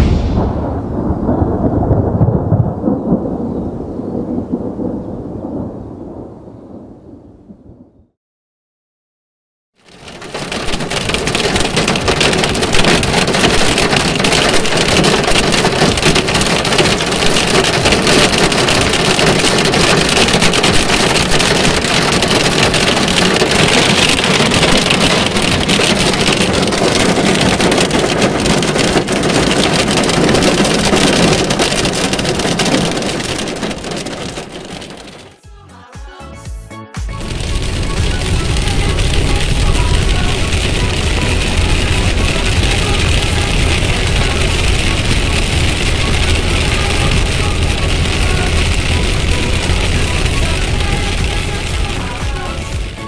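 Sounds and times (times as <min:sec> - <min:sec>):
heavy rain on asphalt: 0:01.0 - 0:03.4, 0:09.8 - 0:35.4, 0:37.1 - 0:53.0.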